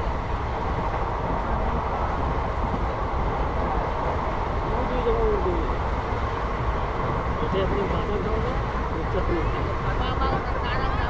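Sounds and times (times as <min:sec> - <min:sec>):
train coach rumbling on rails: 0:00.0 - 0:11.0.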